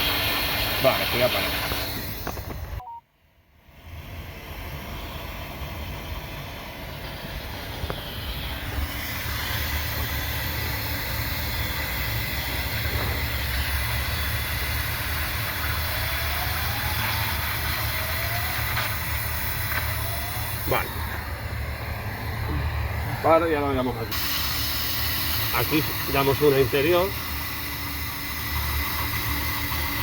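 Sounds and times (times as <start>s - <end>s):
hot-air welding gun blowing: 0.0s - 2.8s, 3.8s - 30.0s.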